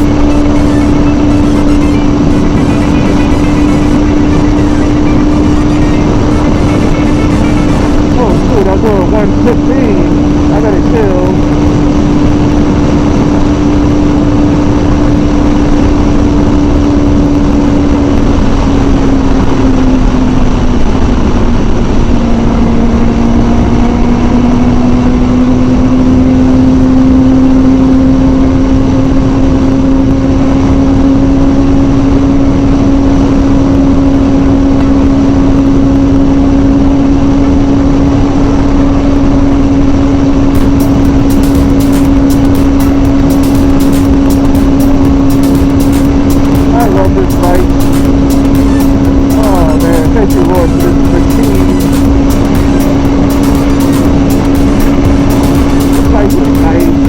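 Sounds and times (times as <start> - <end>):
motorcycle engine cruising: 0.0 - 57.0
wind rush: 0.0 - 57.0.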